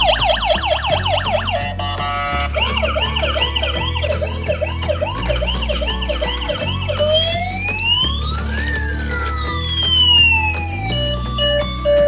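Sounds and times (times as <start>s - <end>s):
toy electronic siren: 0.0s - 12.0s.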